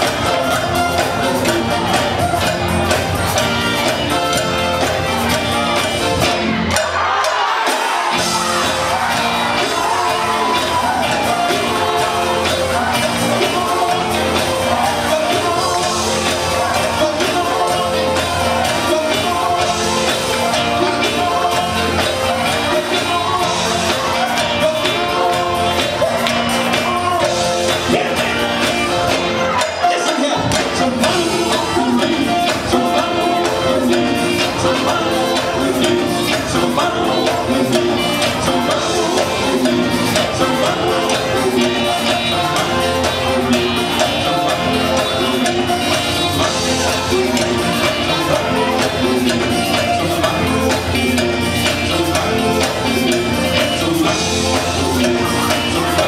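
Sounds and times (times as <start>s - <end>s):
electric band playing: 0.0s - 56.0s
gospel quartet singing: 0.0s - 56.0s.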